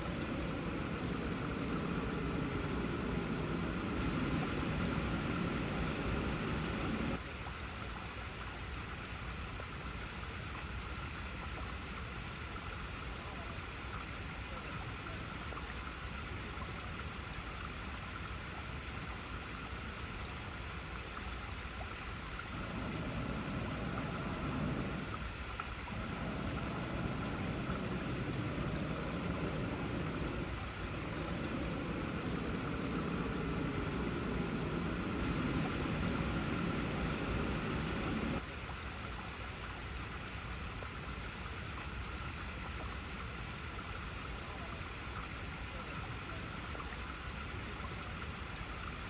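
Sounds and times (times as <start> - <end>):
deeper rushing water: 0.0 - 49.0
water flowing over rocks: 0.0 - 49.0.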